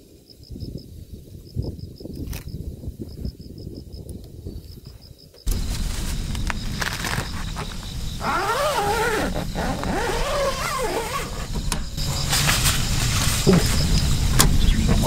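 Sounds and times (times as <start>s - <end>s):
wind buffeting microphone: 0.4s - 15.0s.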